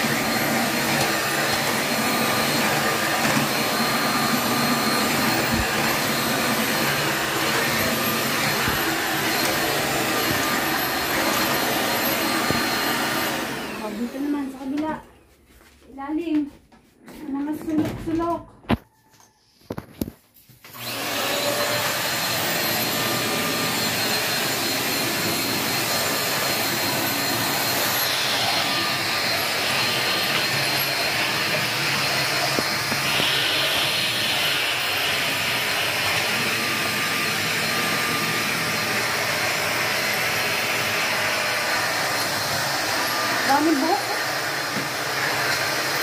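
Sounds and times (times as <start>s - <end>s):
stick vacuum cleaner running: 0.0s - 15.0s, 20.7s - 46.0s.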